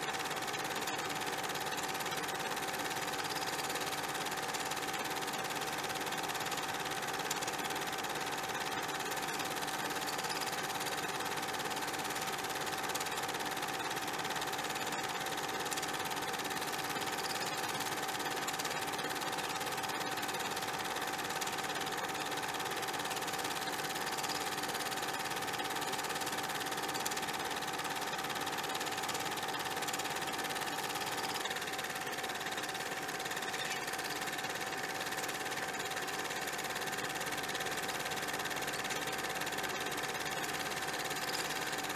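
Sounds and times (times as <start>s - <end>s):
mechanical running noise: 0.0s - 41.9s.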